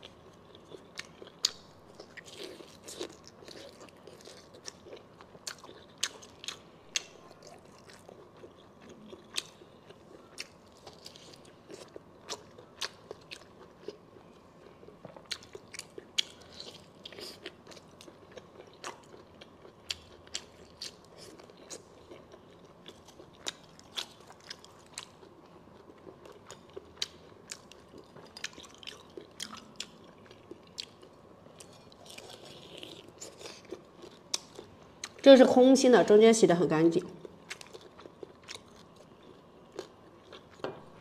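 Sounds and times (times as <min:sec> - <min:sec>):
close chewing: 0:00.0 - 0:35.2, 0:37.4 - 0:40.6.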